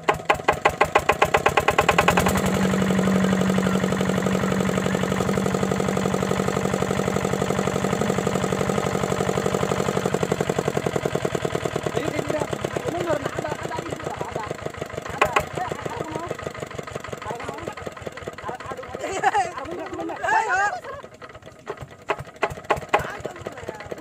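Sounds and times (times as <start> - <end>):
diesel pump engine running: 0.0 - 24.0.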